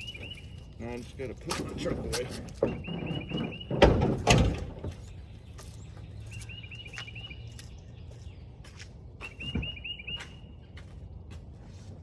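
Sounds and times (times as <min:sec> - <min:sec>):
songbird chirping: 0:00.0 - 0:10.9.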